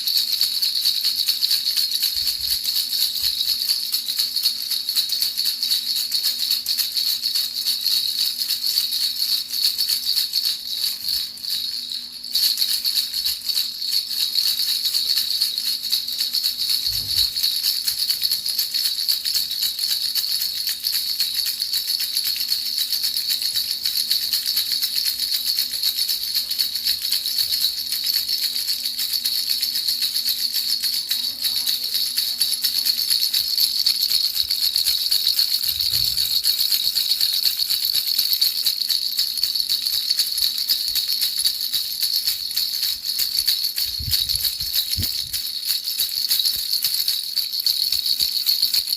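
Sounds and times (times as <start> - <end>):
baby rattle shaking: 0.0 - 48.9.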